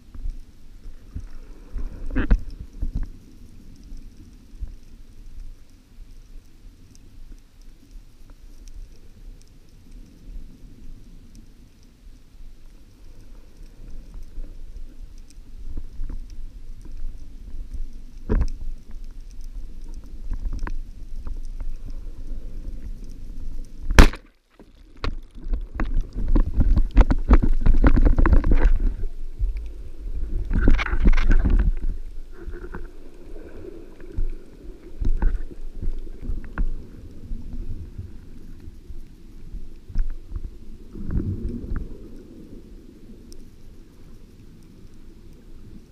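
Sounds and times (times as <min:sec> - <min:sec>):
underwater rumbling: 0:00.0 - 0:45.9.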